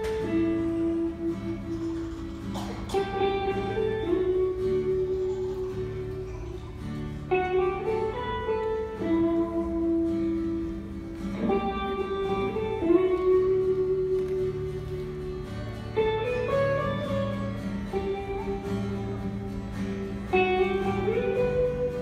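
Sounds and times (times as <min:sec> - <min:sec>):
guitars playing slow melody: 0:00.0 - 0:22.0.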